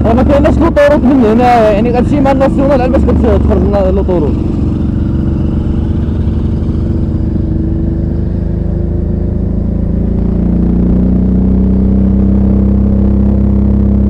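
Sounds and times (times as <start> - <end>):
motorcycle engine droning: 0.0 - 14.0.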